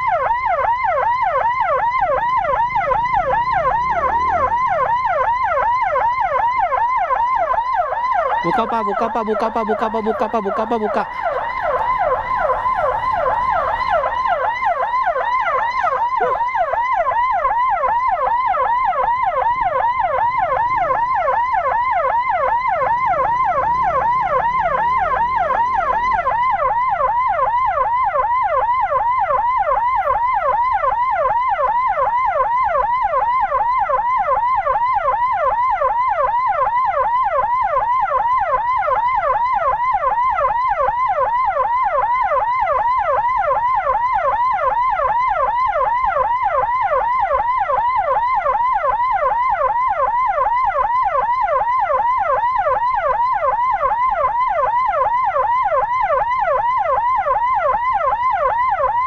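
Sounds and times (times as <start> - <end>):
emergency siren wailing: 0.0 - 59.0.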